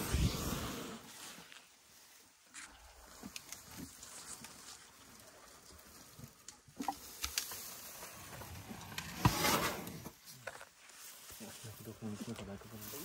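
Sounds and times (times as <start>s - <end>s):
rustling in dry grass: 0.0s - 8.8s, 9.4s - 13.0s.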